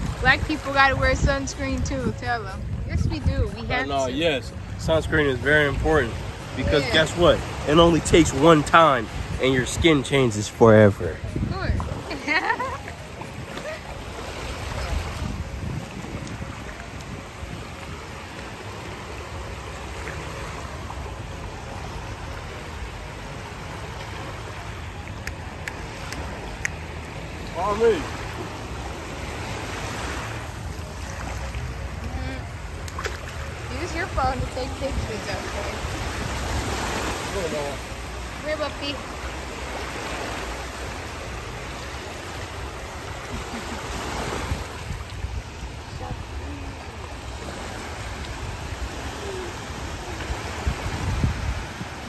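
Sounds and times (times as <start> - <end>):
small waves lapping on shore: 0.0 - 52.0.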